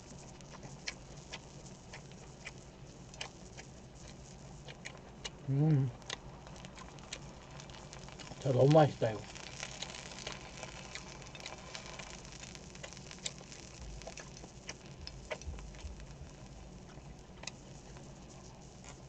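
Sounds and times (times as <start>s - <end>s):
fat crackling and popping: 0.0s - 19.0s
pork sizzling in a pan: 0.0s - 19.0s.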